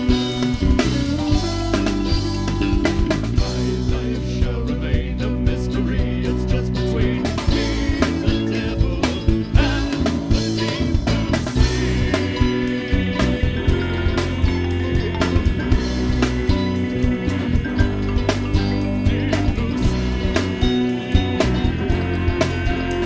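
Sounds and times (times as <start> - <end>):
bass guitar: 0.0 - 23.0
drum kit beat: 0.0 - 23.0
electric guitars: 0.0 - 23.0
person singing: 0.0 - 23.0.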